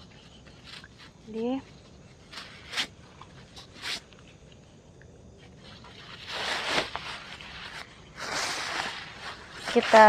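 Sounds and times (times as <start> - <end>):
camping gear rustling: 0.0 - 10.0.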